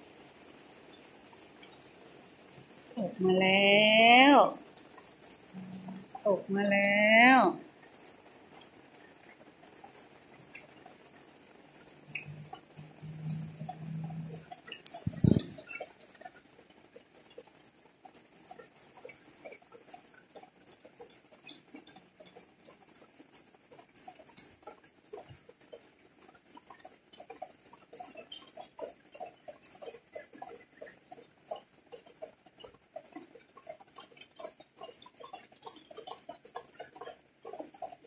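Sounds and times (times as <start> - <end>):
rain dripping on leaves: 0.0 - 38.0.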